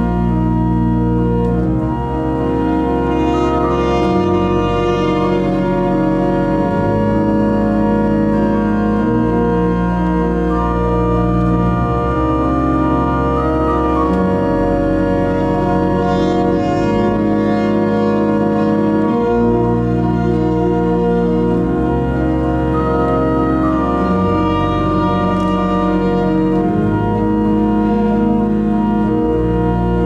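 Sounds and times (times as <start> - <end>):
pipe organ playing slow chords: 0.0 - 30.0.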